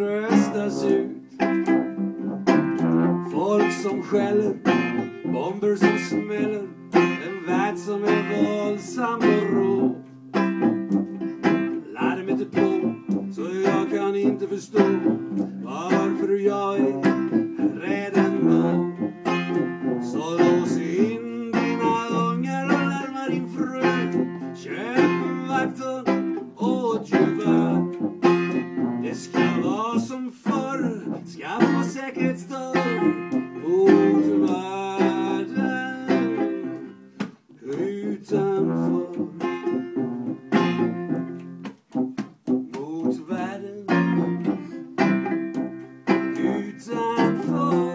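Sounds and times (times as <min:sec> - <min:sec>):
banjo playing: 0:00.0 - 0:47.9
bending melody instrument: 0:00.0 - 0:47.9.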